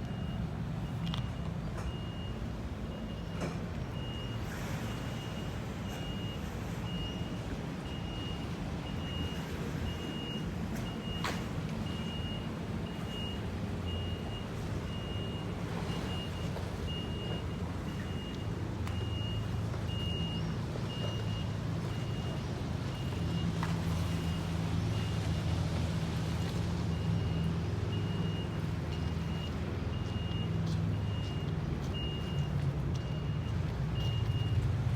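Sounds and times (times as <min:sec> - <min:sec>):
reversing alarm beeps: 0:00.0 - 0:25.6, 0:26.2 - 0:34.7
low engine rumble: 0:00.0 - 0:34.9.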